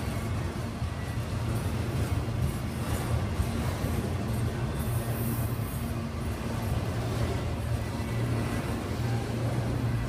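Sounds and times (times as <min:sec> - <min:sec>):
freight train rolling past: 0:00.0 - 0:10.0.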